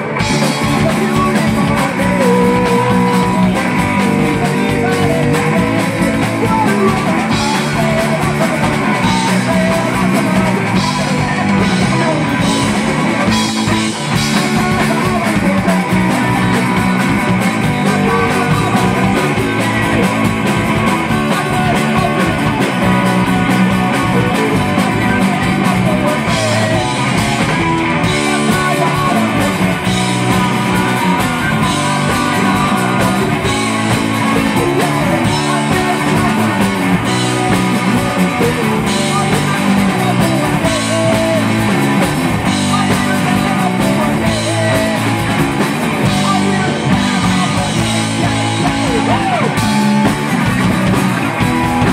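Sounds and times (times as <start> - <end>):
drum kit: 0.0 - 51.9
electric guitar: 0.0 - 51.9
person singing: 0.0 - 51.9.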